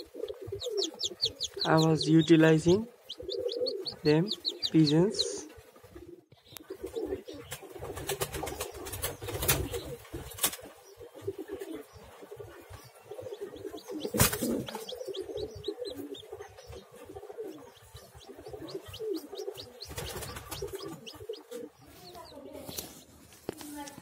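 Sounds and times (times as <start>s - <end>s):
pigeons cooing: 0.0s - 22.4s
chicks peeping faintly: 0.0s - 24.0s.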